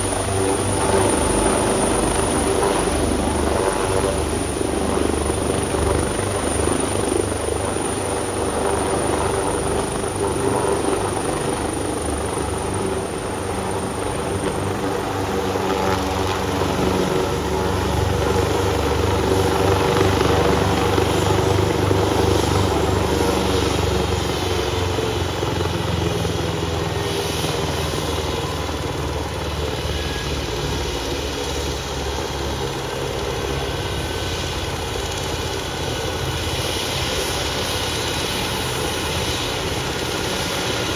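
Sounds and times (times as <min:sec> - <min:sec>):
helicopter rotor beat: 0:00.0 - 0:40.9
turbine engine whine: 0:00.0 - 0:40.9.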